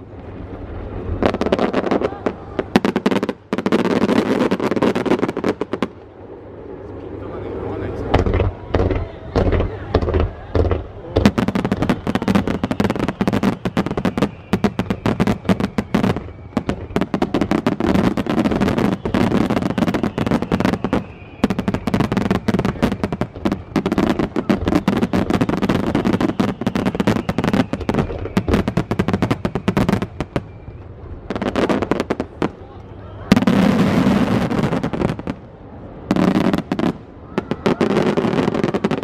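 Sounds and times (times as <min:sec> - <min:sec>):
fireworks booming and crackling: 0:00.0 - 0:39.0.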